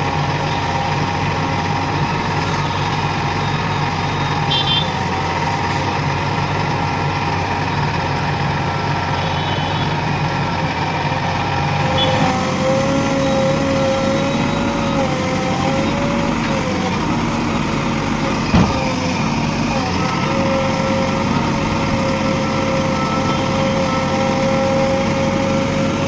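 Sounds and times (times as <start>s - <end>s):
diesel engine running: 0.0s - 26.0s
high engine whine: 0.0s - 26.0s.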